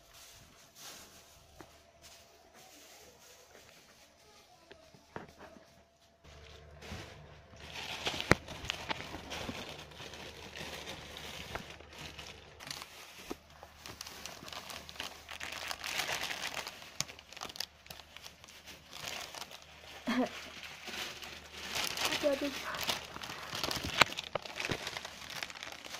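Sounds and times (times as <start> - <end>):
plastic bag rustling: 0.0 - 25.9.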